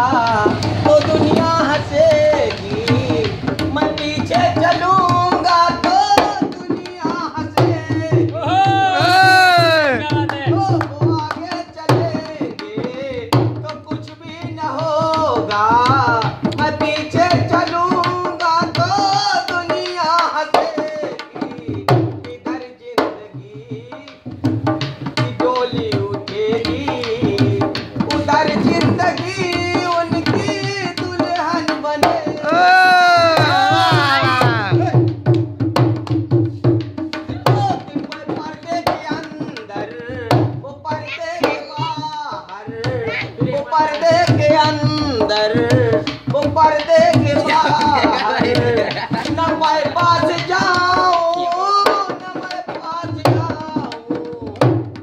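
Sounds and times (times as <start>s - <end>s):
hand drum folk rhythm: 0.0s - 55.0s
man singing: 0.0s - 55.0s.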